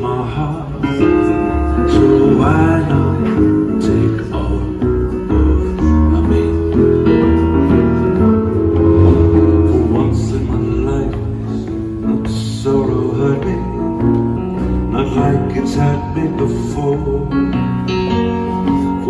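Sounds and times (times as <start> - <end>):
bass line: 0.0 - 19.0
piano chords: 0.0 - 19.0.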